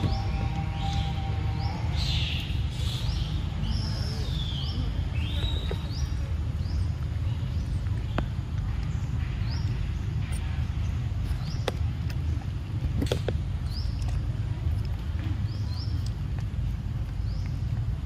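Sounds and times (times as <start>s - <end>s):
birds chirping high calls: 0.0s - 14.4s, 15.3s - 18.0s
steady low rumble: 0.0s - 18.0s.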